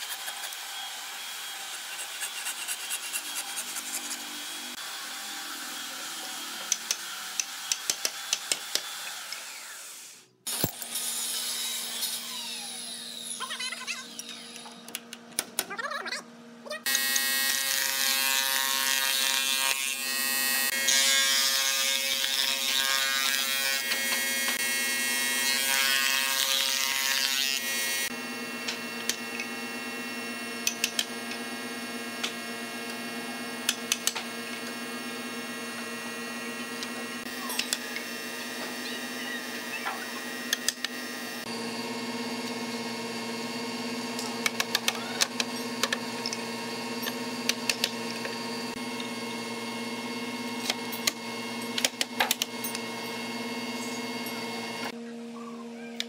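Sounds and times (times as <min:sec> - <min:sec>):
wood shaper cutting board: 0:00.0 - 0:13.4, 0:16.9 - 0:54.9.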